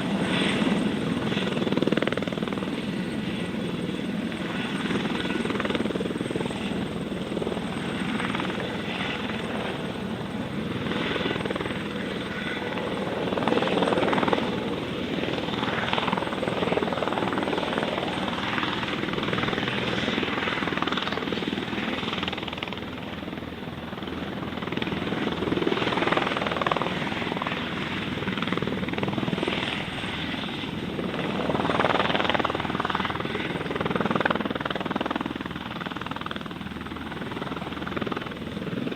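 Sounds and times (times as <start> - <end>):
light aircraft engine: 0.0 - 38.9.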